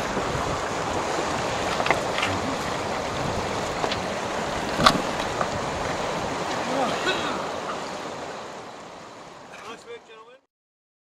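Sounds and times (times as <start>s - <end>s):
river flowing past stony bank: 0.0s - 10.4s.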